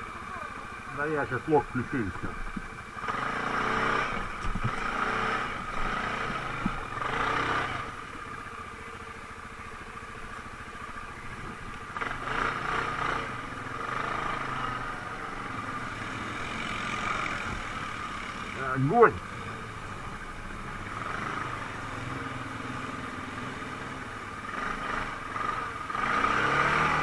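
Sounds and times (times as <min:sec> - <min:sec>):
atv engine revving: 0:00.0 - 0:27.0.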